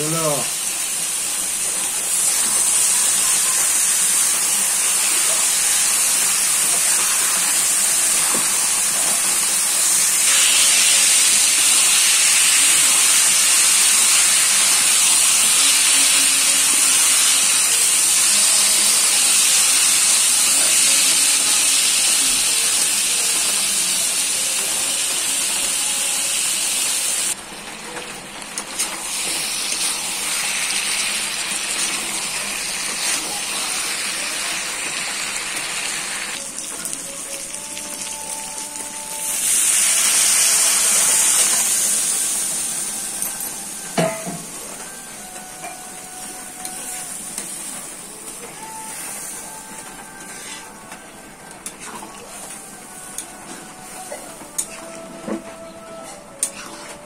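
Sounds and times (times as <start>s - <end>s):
chicken sizzling in hot oil: 0.0s - 27.4s, 28.4s - 54.7s.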